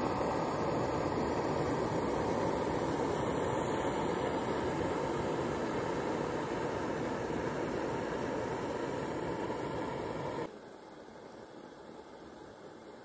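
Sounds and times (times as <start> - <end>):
camping stove burner roaring: 0.0 - 10.5.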